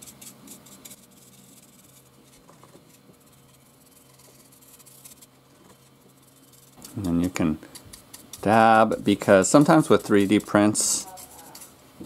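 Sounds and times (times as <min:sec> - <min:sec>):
paintbrush dabbing on plastic: 0:00.0 - 0:11.8
low steady hum: 0:00.0 - 0:12.0.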